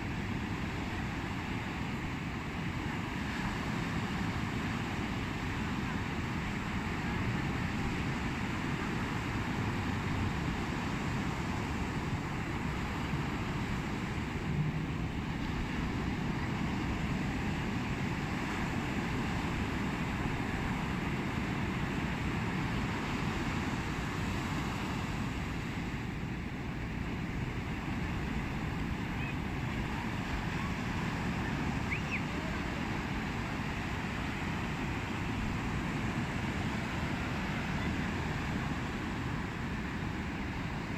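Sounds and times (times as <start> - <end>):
sea wind: 0.0 - 40.9
waves: 0.0 - 40.9.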